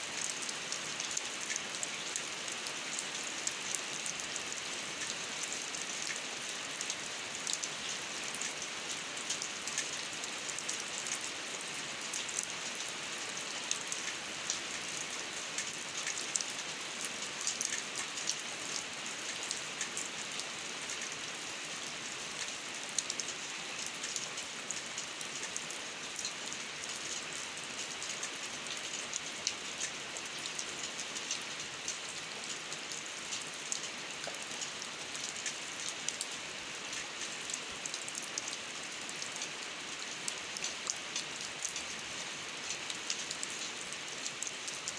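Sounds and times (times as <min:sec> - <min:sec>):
rain on concrete and grass: 0:00.0 - 0:44.9.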